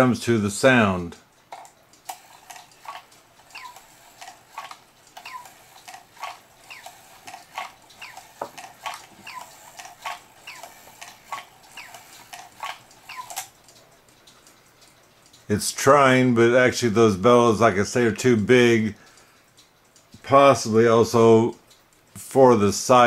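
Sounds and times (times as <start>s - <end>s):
clock ticking: 0.0s - 22.3s.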